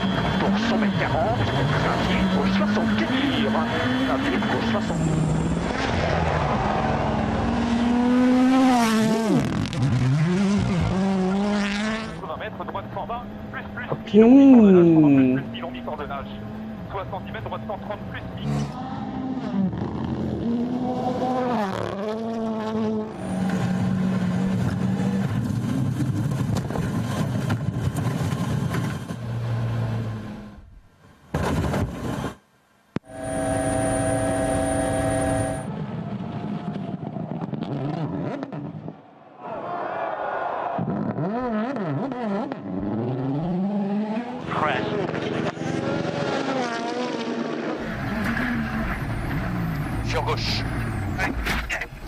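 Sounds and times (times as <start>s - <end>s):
rally car engine revving: 0.0s - 30.6s, 33.0s - 39.0s, 40.7s - 52.0s.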